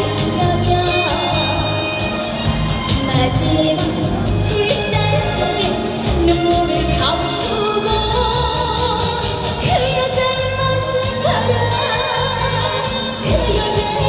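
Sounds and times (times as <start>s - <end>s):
backing track with pulsing bass: 0.0s - 14.0s
woman singing with vibrato: 0.0s - 14.0s.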